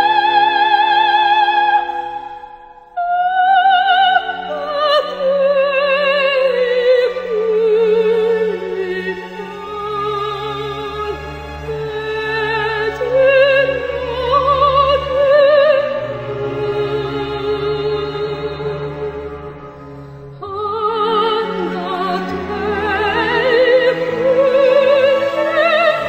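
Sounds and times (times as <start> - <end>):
steady musical accompaniment: 0.0 - 26.0.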